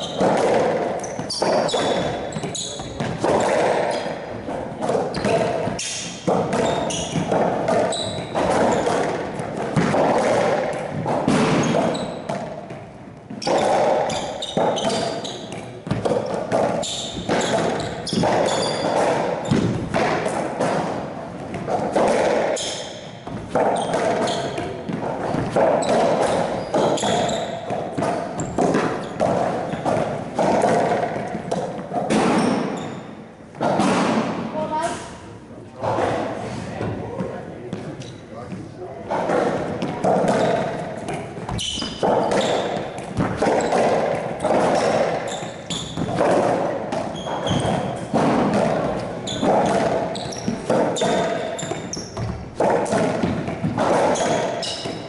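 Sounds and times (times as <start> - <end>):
sneakers squeaking on court floor: 0.0 - 19.9, 21.0 - 33.3, 36.0 - 38.6, 39.3 - 55.0
racquetball hitting racquets and walls: 0.0 - 55.0.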